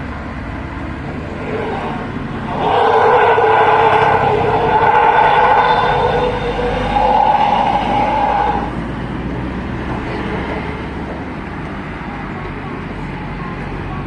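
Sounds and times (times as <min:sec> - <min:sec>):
bus rumble: 0:00.0 - 0:14.0
road traffic: 0:00.0 - 0:14.0.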